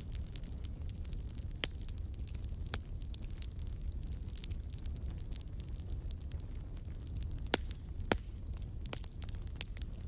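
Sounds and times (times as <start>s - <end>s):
fireplace crackling: 0.0s - 10.0s.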